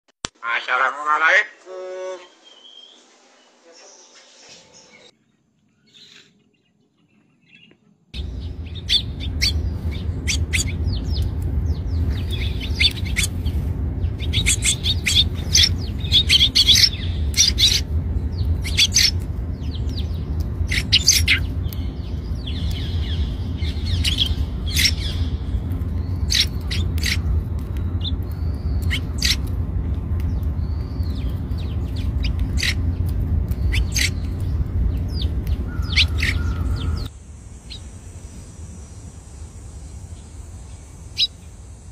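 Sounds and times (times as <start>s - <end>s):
sparrow chirping: 2.1s - 5.1s, 5.8s - 37.9s, 40.1s - 41.4s
steady low rumble: 8.2s - 41.9s.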